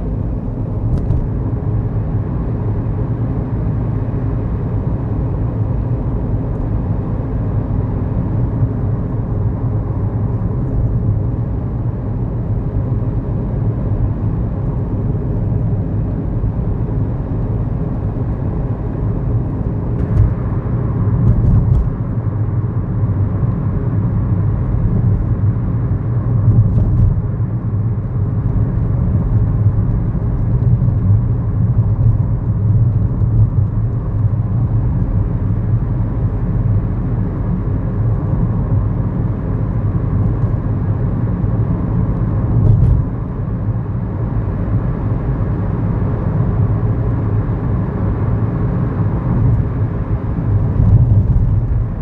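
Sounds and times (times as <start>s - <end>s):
car engine hum: 0.0s - 52.0s.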